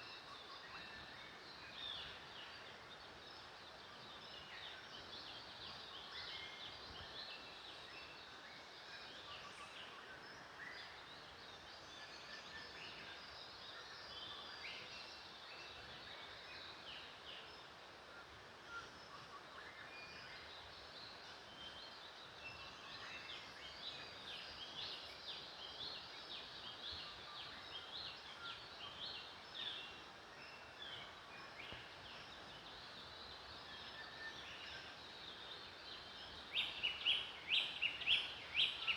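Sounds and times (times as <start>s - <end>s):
steady background hiss: 0.0s - 38.9s.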